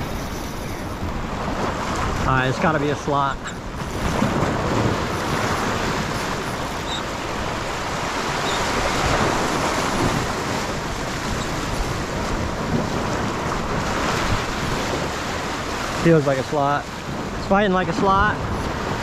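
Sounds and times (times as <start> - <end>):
waves splashing against rocks: 0.0 - 19.0
wind buffeting microphone: 0.0 - 19.0.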